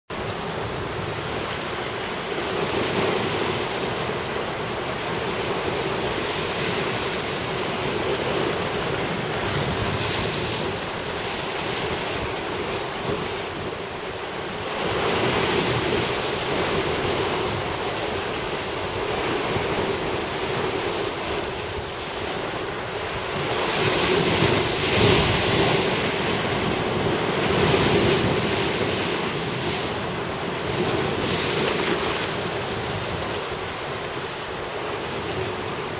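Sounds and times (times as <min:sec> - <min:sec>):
surf breaking on rocks: 0:00.1 - 0:35.9.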